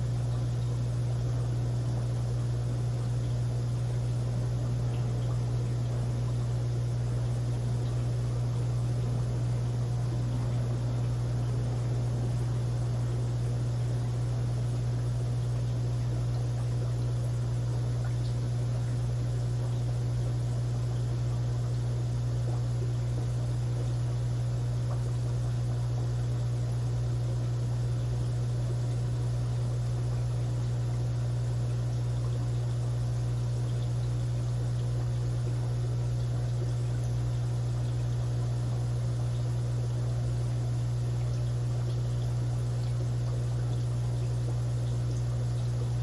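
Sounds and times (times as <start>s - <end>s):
aquarium filter pump humming: 0.0s - 46.0s
water trickling: 0.1s - 46.0s.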